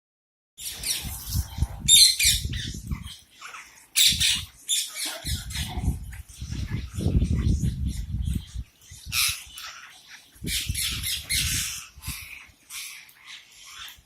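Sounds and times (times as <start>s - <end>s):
parrots squawking: 0.6s - 14.0s.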